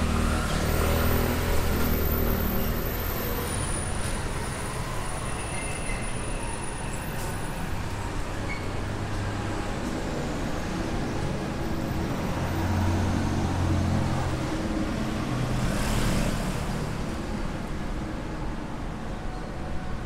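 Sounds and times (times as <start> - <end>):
vehicle engines humming: 0.0 - 19.1.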